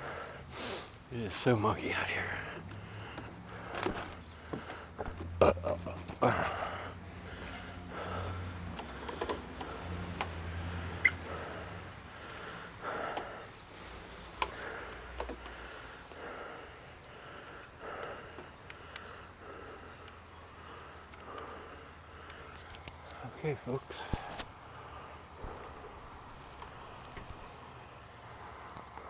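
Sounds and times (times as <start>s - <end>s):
person breathing hard: 0.0s - 1.1s, 1.8s - 22.8s, 23.8s - 29.0s.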